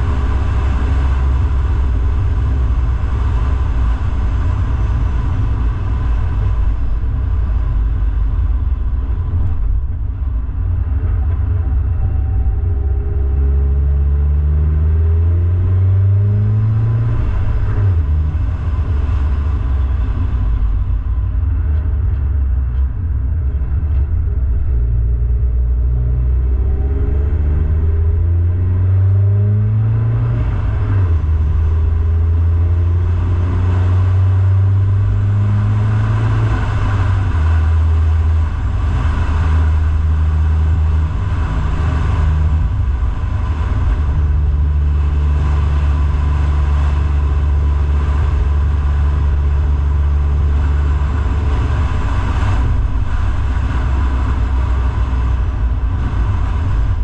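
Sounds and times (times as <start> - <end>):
car engine accelerating uphill: 0.0 - 57.0
low road rumble: 0.0 - 57.0.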